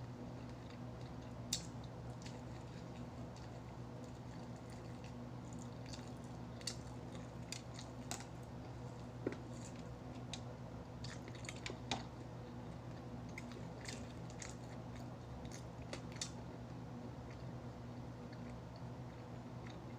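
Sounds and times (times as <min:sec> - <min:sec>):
chewing and biting: 0:00.2 - 0:19.9.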